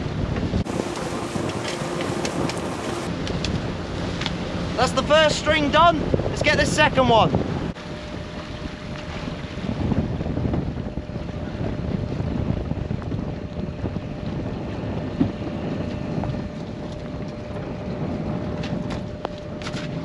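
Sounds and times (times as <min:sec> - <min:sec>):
boat engine rumble: 0:00.0 - 0:20.0
wind buffeting microphone: 0:00.0 - 0:20.0.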